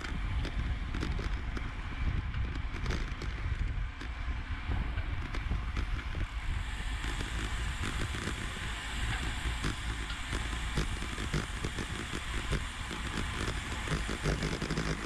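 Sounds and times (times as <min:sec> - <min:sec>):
bicycle clicks and knocks: 0:00.0 - 0:15.0
road rumble: 0:00.0 - 0:15.0
wind buffeting microphone: 0:00.0 - 0:15.0.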